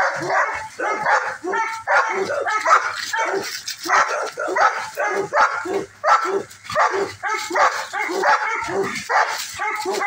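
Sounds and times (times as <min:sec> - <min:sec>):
dogs barking in play: 0:00.0 - 0:10.0.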